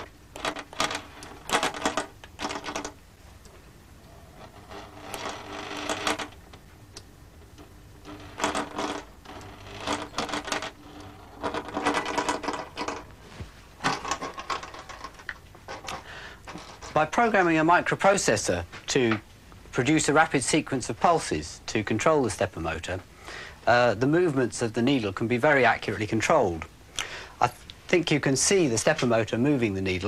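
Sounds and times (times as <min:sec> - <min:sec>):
faint hum: 0:00.0 - 0:28.8.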